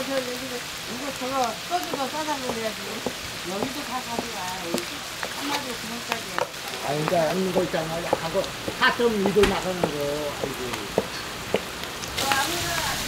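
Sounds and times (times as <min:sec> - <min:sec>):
people talking: 0:00.0 - 0:10.9, 0:12.2 - 0:13.0
pork sizzling on a griddle: 0:00.0 - 0:13.0.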